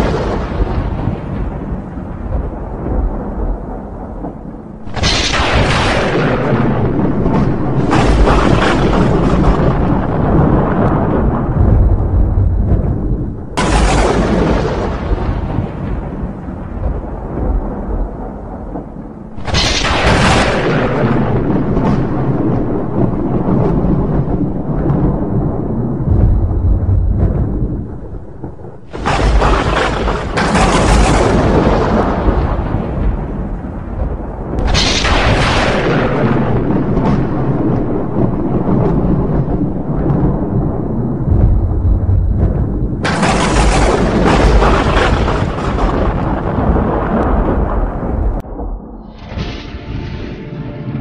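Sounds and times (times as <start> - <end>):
thunder crack and rumble: 0.0 - 51.0.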